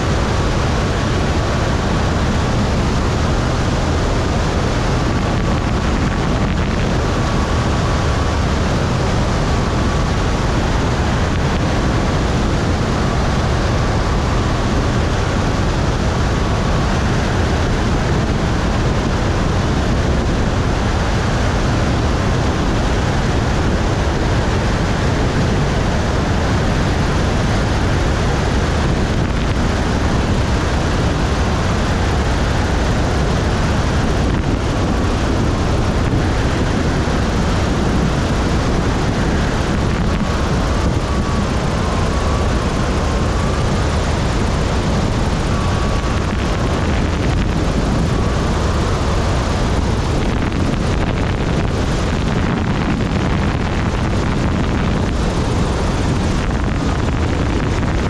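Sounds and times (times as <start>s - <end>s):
airplane engine drone: 0.0s - 58.0s
rushing air: 0.0s - 58.0s.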